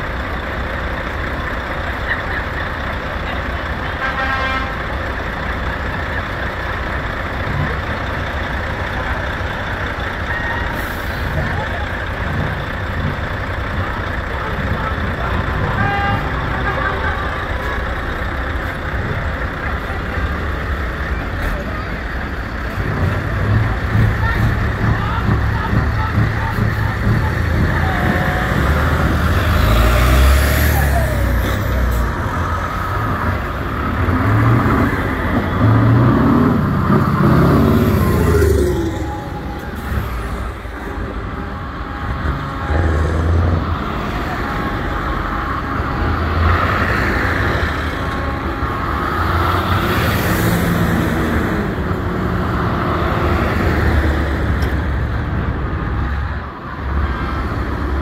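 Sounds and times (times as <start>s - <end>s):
heavy truck engines driving: 0.0s - 58.0s.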